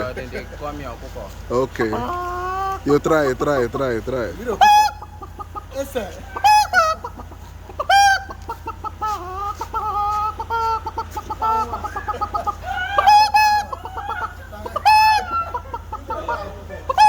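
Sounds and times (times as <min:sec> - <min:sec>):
man imitating chicken clucking: 0:01.8 - 0:17.0.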